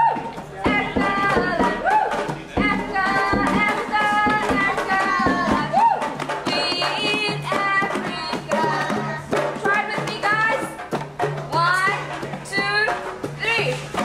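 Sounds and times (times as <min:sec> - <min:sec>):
hand drum beating: 0:00.0 - 0:14.0
woman singing: 0:00.6 - 0:02.0, 0:02.6 - 0:10.8, 0:11.5 - 0:14.0.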